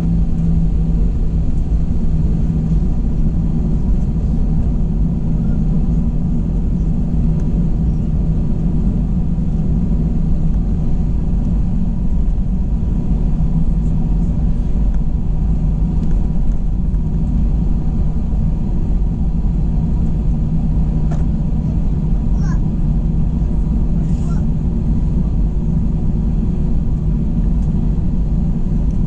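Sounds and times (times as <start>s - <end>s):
aircraft cabin rumble: 0.0s - 29.0s.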